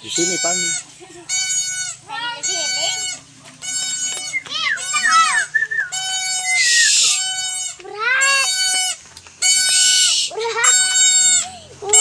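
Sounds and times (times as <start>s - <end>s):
animal cries: 0.0s - 12.0s.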